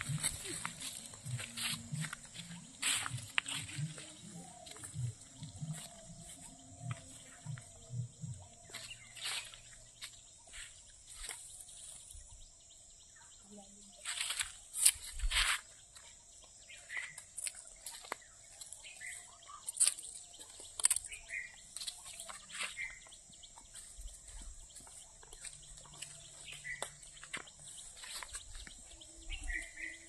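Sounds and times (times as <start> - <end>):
bird chirps: 0.0 - 30.0.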